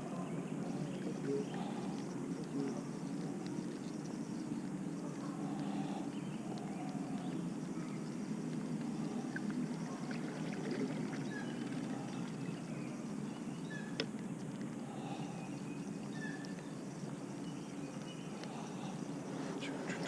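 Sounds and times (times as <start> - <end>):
faint bird chirps: 0.0 - 14.0, 14.8 - 20.0.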